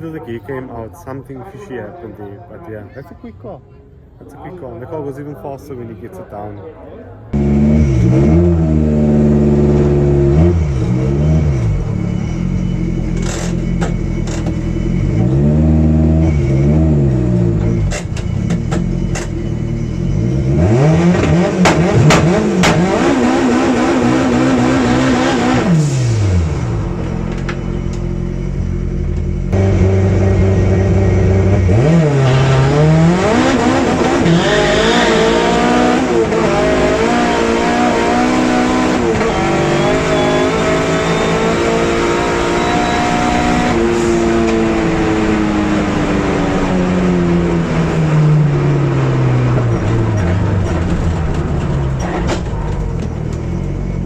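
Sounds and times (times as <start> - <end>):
drag racing engines revving: 7.3 - 54.0.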